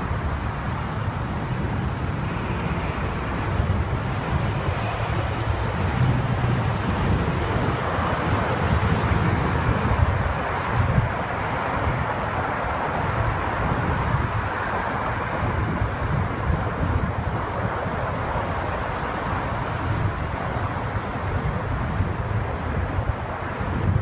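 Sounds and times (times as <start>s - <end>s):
road traffic: 0.0s - 24.0s
wind buffeting microphone: 0.0s - 24.0s.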